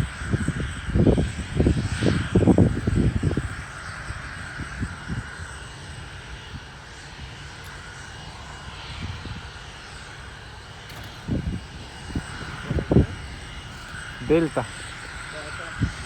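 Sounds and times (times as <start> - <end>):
jet engines humming: 0.0 - 16.0.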